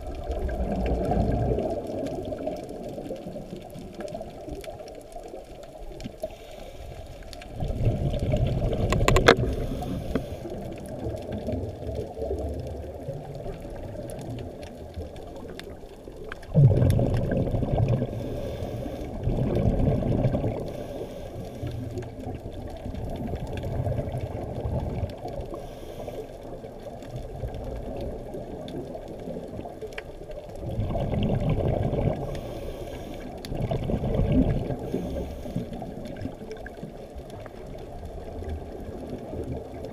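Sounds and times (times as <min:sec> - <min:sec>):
underwater regulator bubbles gurgling: 0:00.0 - 0:39.9.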